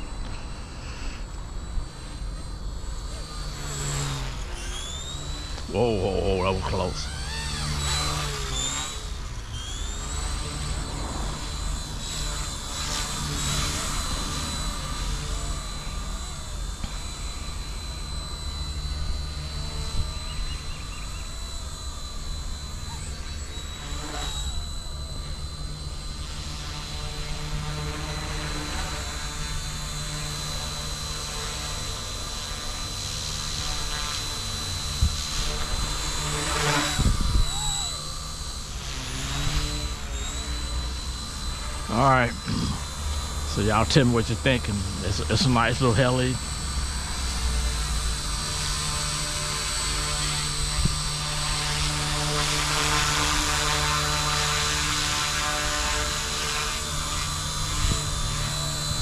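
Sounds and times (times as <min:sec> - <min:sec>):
toy helicopter motor whine: 0:00.0 - 0:59.0.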